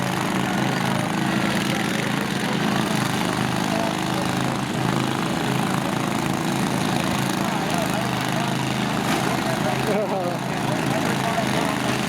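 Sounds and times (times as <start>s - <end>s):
small engines droning: 0.0s - 12.0s.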